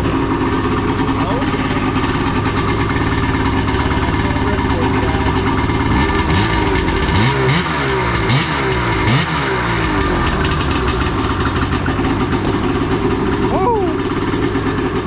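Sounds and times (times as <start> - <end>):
snowmobile engine idling and revving: 0.0 - 15.0.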